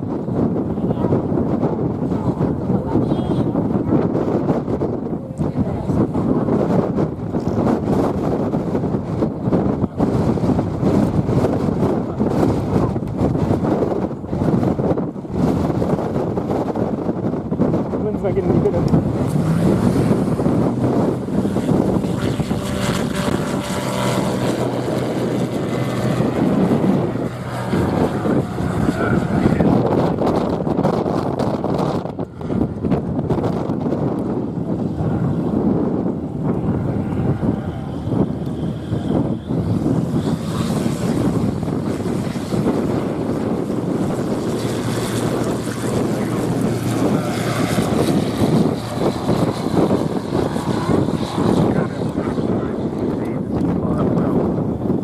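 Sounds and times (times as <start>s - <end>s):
light aircraft engine drone: 0.0s - 55.0s
wind rumbling on microphone: 0.0s - 55.0s.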